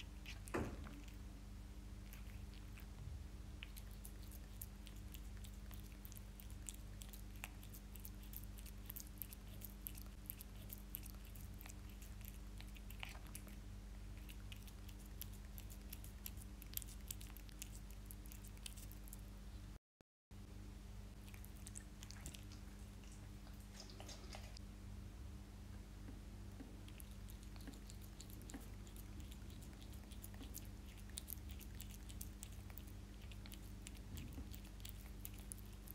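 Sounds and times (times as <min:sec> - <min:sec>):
cat chewing fish: 0:00.0 - 0:01.3, 0:01.9 - 0:19.3, 0:21.2 - 0:24.6, 0:26.5 - 0:35.9
faint steady hum: 0:00.0 - 0:35.9.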